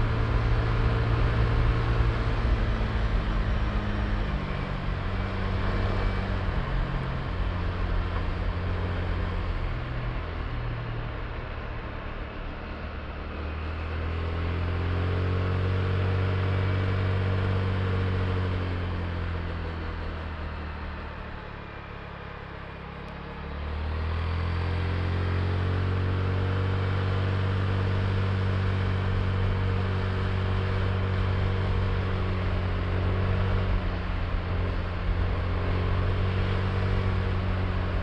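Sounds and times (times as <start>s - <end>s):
wind and road noise: 0.0s - 38.0s.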